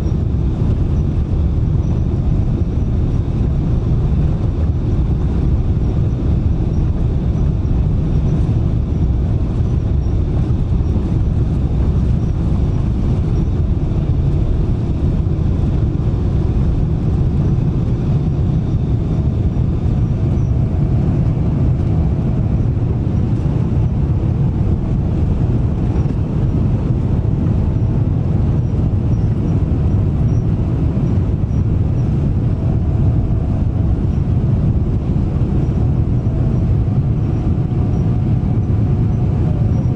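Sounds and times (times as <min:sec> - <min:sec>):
airliner engines low rumble: 0:00.0 - 0:39.9.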